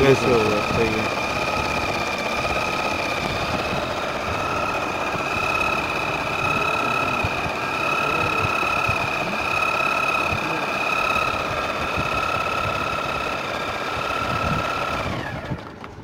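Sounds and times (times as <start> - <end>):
sewing machine motor whine: 0.0 - 16.0.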